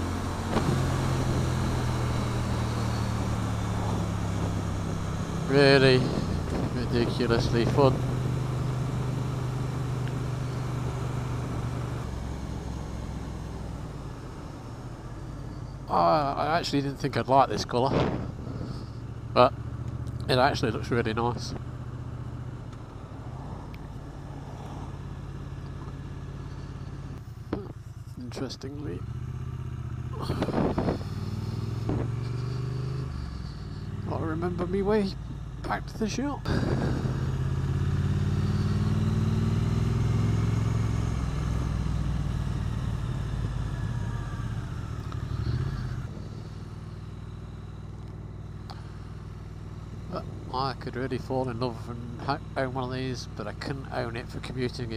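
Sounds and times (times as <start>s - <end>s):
motorcycle engine cruising: 0.0s - 54.9s
road noise: 0.0s - 54.9s.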